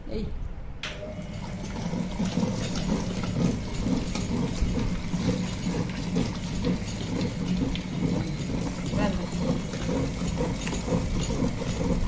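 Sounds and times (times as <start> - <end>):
wet grinder motor hum: 0.9 - 12.0
stone roller churning paste: 1.3 - 12.0.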